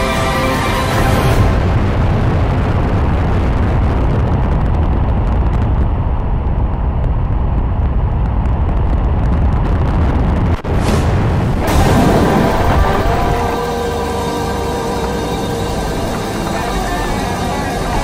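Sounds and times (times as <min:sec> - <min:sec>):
deep rumble: 0:00.5 - 0:18.0
rushing airflow noise: 0:00.8 - 0:18.0.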